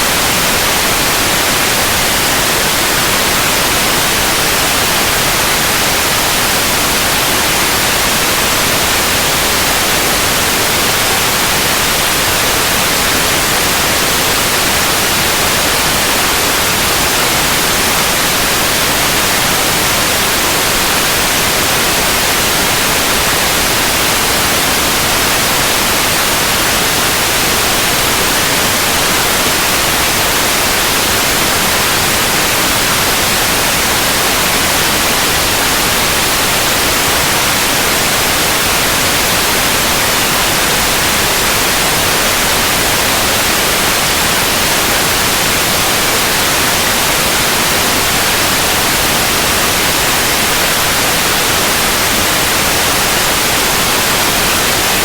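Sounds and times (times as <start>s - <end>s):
white noise: 0.0s - 55.0s.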